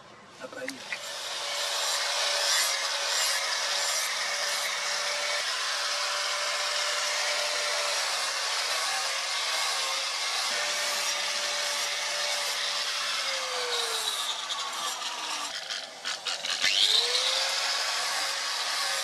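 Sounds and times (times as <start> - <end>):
angle grinder grinding steel: 0.7 - 19.0.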